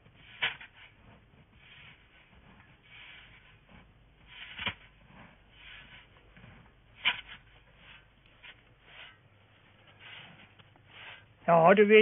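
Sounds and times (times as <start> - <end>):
snow shovel scraping snow: 0.0 - 11.8.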